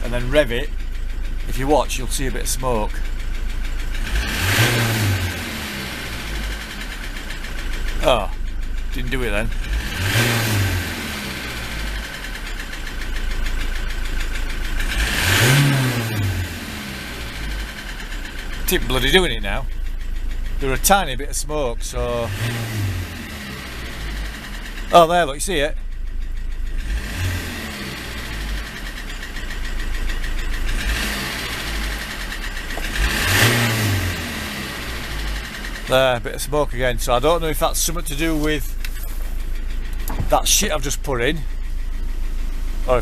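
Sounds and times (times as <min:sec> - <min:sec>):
diesel engine idling with knock: 0:00.0 - 0:43.0.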